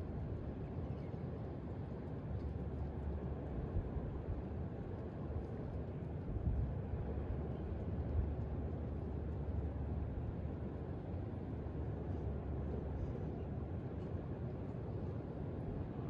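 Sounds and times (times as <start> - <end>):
gusting wind: 0.0 - 16.0.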